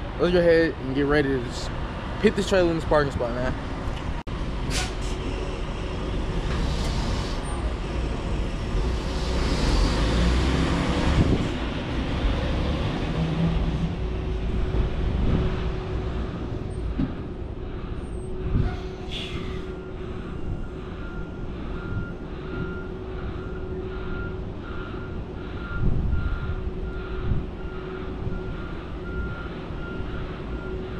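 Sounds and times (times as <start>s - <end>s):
diesel truck engine rumbling: 0.0s - 30.9s.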